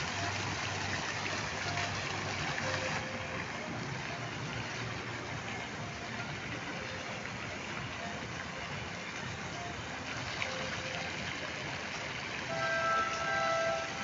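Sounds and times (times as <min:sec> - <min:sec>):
fountain water splashing: 0:00.0 - 0:14.0.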